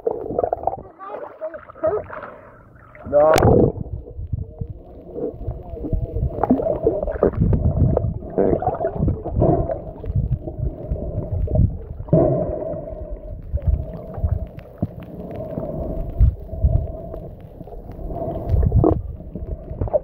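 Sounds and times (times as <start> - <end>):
low underwater rumbling: 0.0 - 20.0
steady hum: 0.0 - 20.0
water knocks and gurgles: 0.0 - 20.0.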